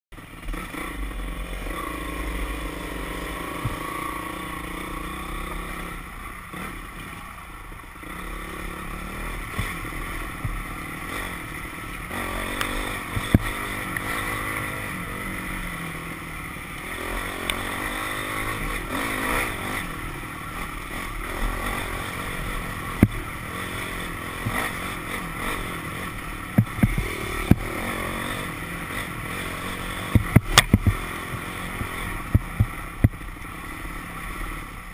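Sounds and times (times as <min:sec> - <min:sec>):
dirt bike engine: 0:00.1 - 0:34.9.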